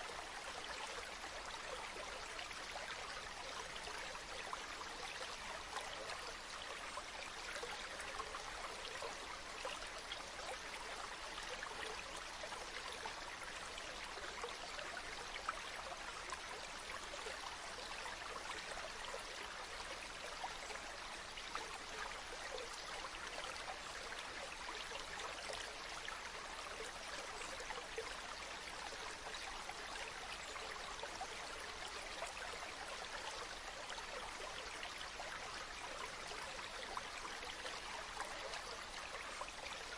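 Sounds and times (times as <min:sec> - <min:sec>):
stream water running over rocks: 0:00.0 - 0:39.9.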